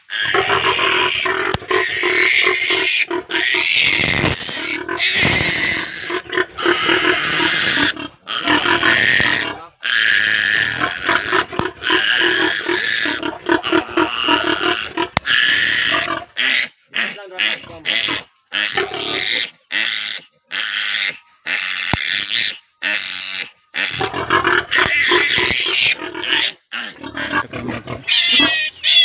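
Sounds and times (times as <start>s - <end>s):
piglet squealing: 0.1s - 29.0s.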